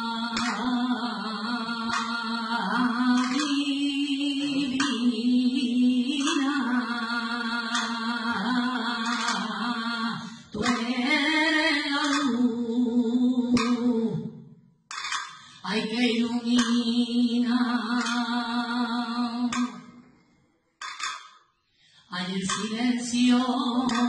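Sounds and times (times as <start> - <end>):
woman singing unaccompanied: 0.0 - 14.4, 15.6 - 19.9, 22.1 - 24.0.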